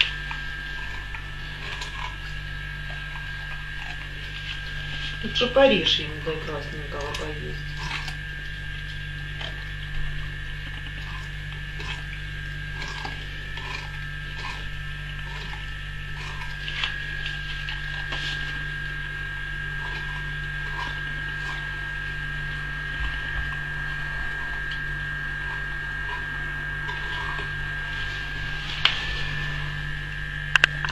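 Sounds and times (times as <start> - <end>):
dog teeth scraping watermelon: 0.0 - 30.9
electrical hum with high whine: 0.0 - 30.9.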